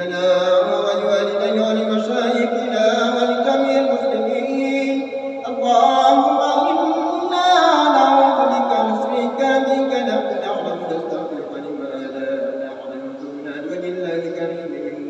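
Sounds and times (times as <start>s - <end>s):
man chanting a prayer: 0.0s - 15.0s.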